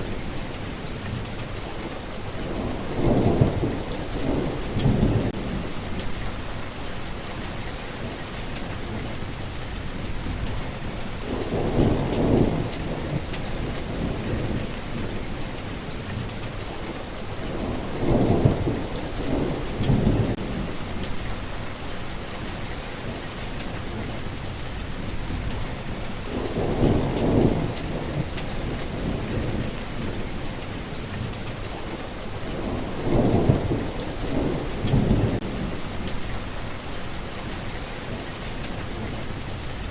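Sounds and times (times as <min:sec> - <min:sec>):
heavy rain hissing: 0:00.0 - 0:39.9
rolling thunder: 0:02.2 - 0:39.5.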